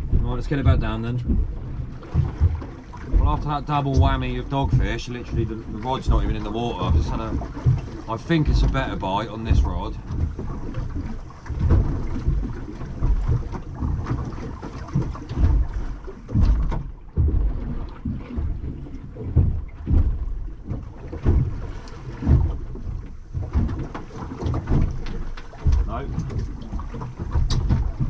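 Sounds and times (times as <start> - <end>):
low bumps: 0.0 - 28.0
water slapping against hull: 0.0 - 28.0
wind buffeting microphone: 0.0 - 28.0.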